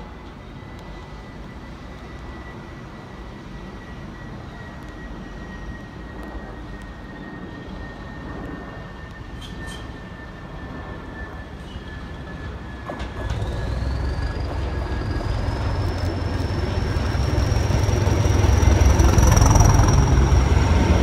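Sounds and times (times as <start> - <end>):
distant train rumble and whine: 0.0 - 21.0.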